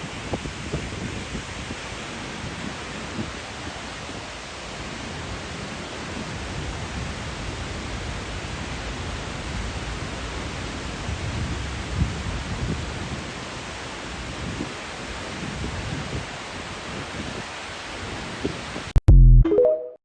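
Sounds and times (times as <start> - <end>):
waterfall roar: 0.0 - 18.9
wind buffeting microphone: 0.0 - 18.9.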